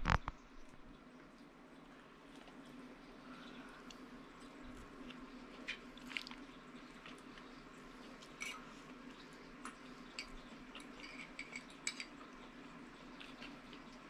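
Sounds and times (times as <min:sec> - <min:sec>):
person chewing with wet smacks: 0:01.3 - 0:14.0.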